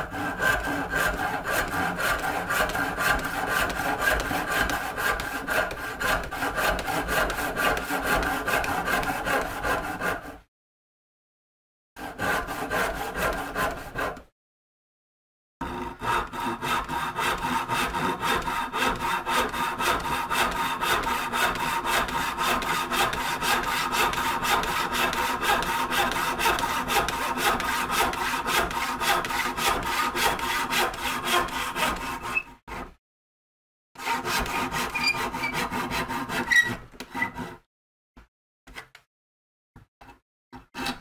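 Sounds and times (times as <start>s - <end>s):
hand saw cutting timber: 0.0s - 10.4s, 12.0s - 14.3s, 15.6s - 33.0s, 34.0s - 37.7s, 40.0s - 41.0s.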